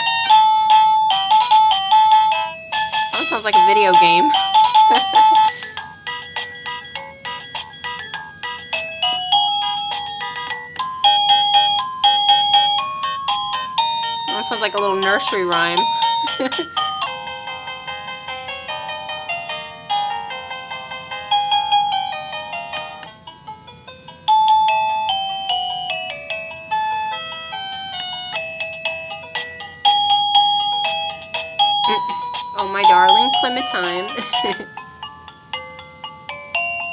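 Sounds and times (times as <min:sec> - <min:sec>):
doorbell beeping melody: 0:00.0 - 0:36.9.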